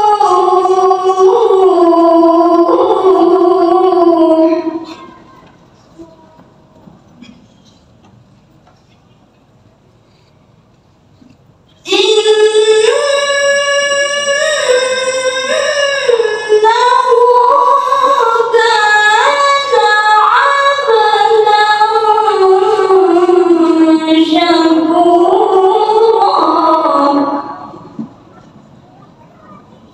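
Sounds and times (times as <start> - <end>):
woman reciting melodically: 0.0 - 8.7, 11.3 - 29.9.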